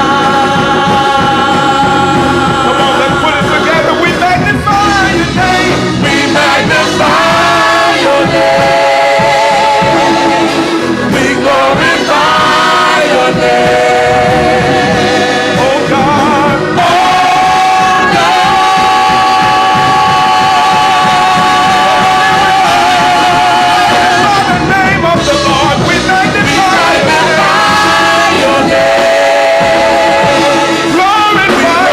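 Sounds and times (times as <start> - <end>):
gospel singers with vibrato: 0.0 - 31.9
music: 0.0 - 31.9.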